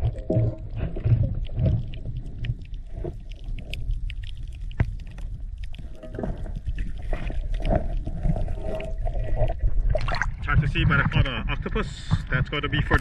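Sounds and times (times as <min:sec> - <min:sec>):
low underwater rumble: 0:00.0 - 0:13.0
muffled water sloshing: 0:00.0 - 0:13.0.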